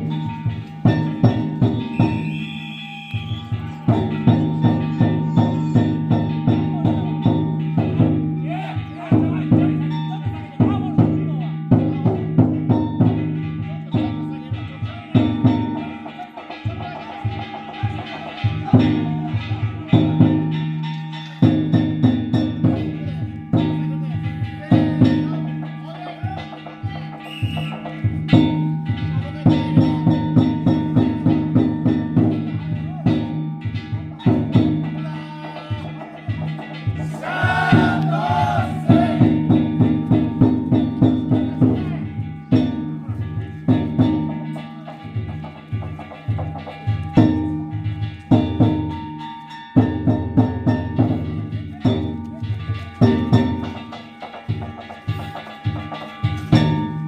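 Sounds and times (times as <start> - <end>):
festival drums and gongs: 0.0 - 57.0.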